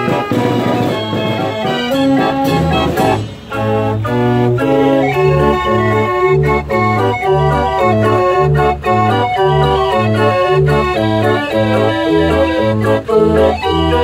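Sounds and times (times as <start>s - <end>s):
street organ playing a tune: 0.0s - 14.0s.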